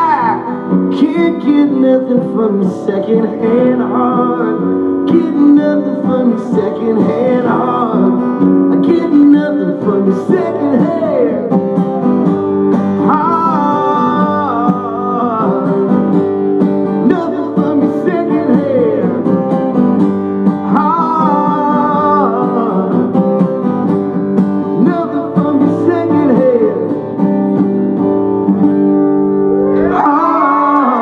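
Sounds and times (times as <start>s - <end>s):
man singing: 0.0s - 11.8s, 12.9s - 19.8s, 20.4s - 23.7s, 24.6s - 27.3s, 29.8s - 31.0s
acoustic guitar strumming: 0.0s - 30.0s.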